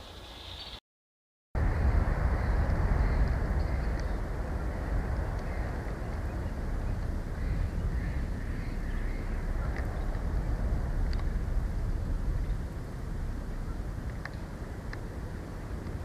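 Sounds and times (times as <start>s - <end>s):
steady low rumble: 1.6s - 16.0s.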